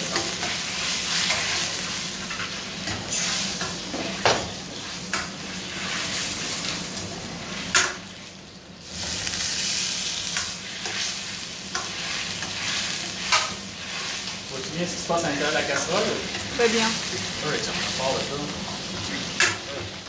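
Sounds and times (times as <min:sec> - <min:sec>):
sauce sizzling in a wok: 0:00.0 - 0:20.0.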